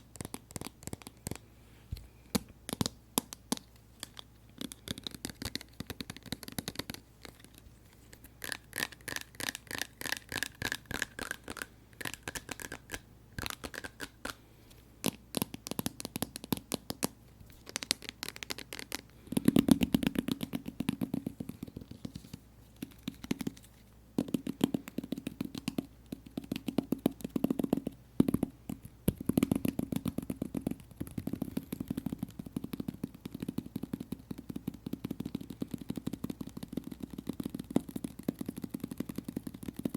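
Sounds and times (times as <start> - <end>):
fingertips tapping on slime: 0.0 - 1.5, 2.3 - 7.6, 8.2 - 14.4, 15.0 - 39.9.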